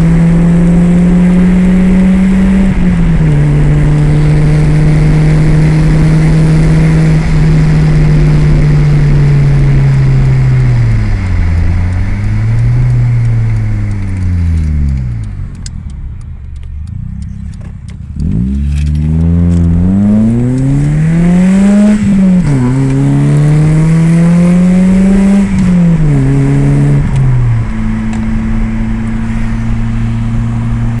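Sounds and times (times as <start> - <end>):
car engine revving through gears: 0.0 - 16.0, 16.6 - 31.0.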